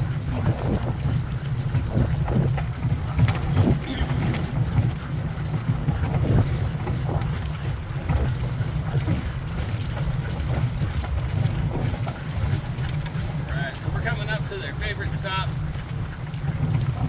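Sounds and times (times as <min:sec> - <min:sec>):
cart wheels rumbling on gravel: 0:00.0 - 0:17.0
patter of running paws: 0:00.0 - 0:17.0.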